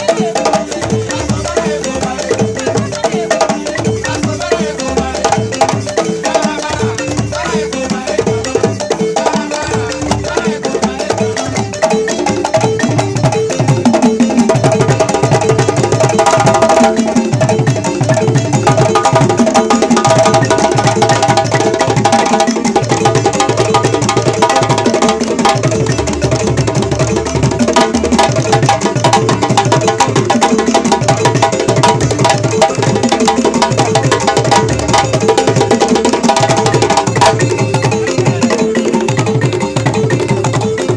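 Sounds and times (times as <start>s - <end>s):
balafon runs: 0.0s - 40.9s
low hand-drum beats: 0.0s - 40.9s.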